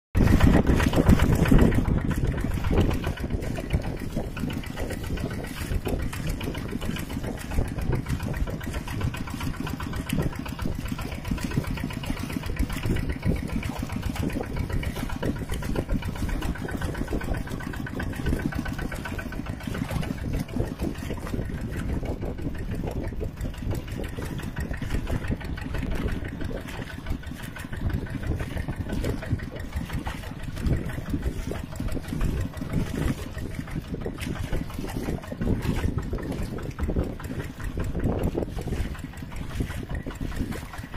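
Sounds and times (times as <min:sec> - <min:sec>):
tractor engine running: 0:00.2 - 0:40.9.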